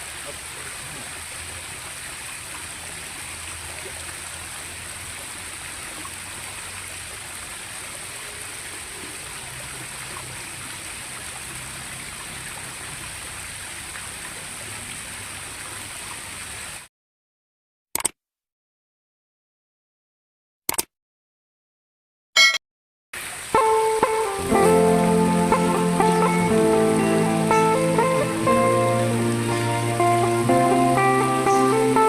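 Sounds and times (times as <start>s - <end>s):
flowing stream water: 0.0s - 16.9s, 23.2s - 32.0s.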